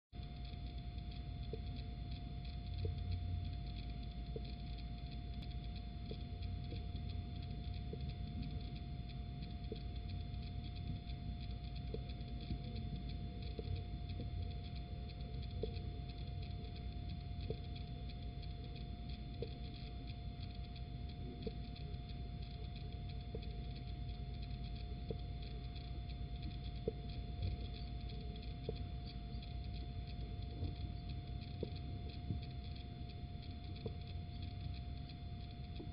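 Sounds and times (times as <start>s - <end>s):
electrical hum and hiss: 0.2s - 35.9s
fine even ticking: 0.2s - 35.9s
thin whine: 0.2s - 35.9s.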